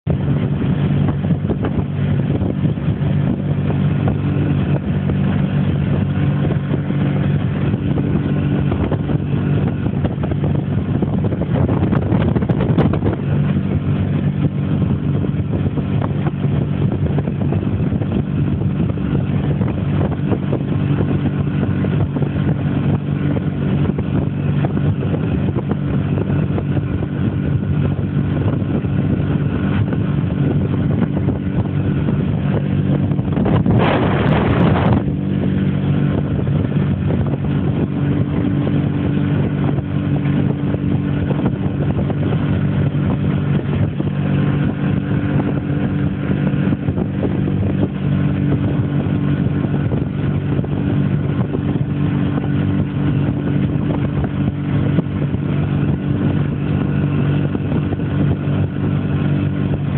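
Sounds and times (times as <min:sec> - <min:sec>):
motorboat engine humming: 0:00.0 - 0:59.9
rushing wind: 0:00.0 - 0:59.9
water noise: 0:00.0 - 0:59.9.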